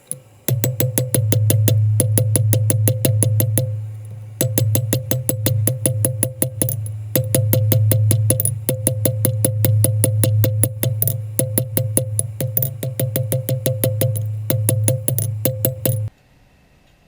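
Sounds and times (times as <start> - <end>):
fast electronic beat: 0.0 - 16.1
steady bass note: 0.5 - 16.1.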